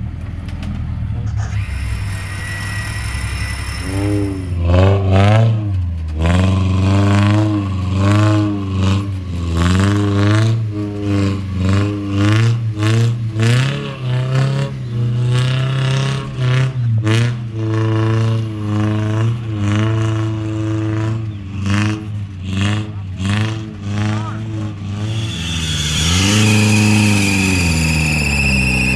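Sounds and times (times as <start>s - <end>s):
off-road engine revving: 0.0s - 28.9s.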